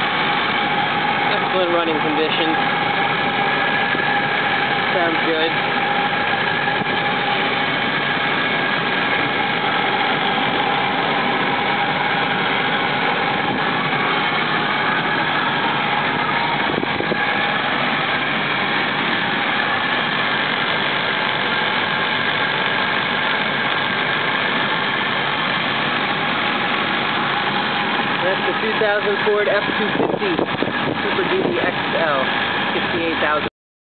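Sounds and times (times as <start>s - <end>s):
truck engine idling: 0.0s - 33.5s.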